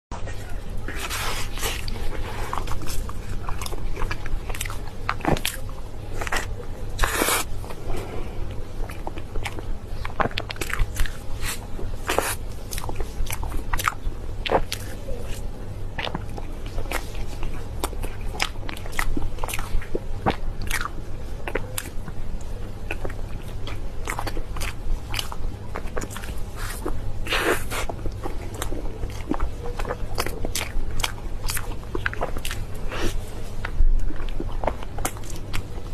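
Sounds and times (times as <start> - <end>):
chewing and crunching: 0.1 - 35.9
low hum: 0.1 - 35.9.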